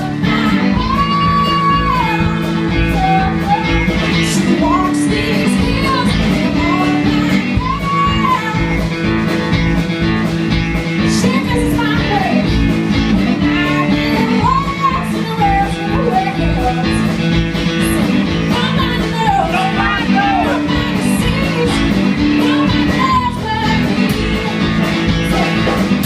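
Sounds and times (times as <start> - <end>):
bass: 0.0 - 26.0
drum beat: 0.0 - 26.0
electric guitar lead: 0.0 - 26.0.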